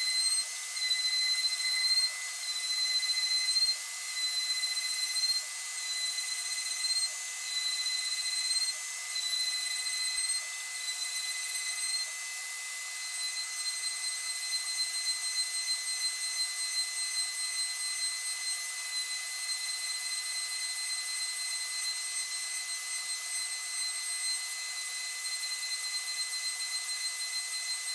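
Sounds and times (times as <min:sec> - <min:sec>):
high-pitched whistle: 0:00.0 - 0:12.2, 0:13.0 - 0:27.9.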